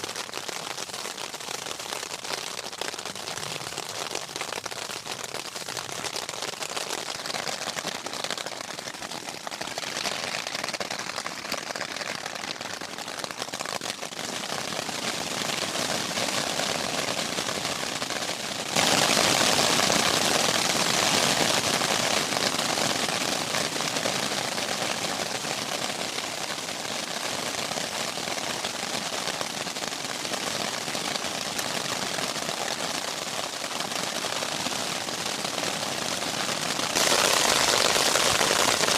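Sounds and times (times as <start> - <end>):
rain pattering on a tent: 0.0 - 38.9.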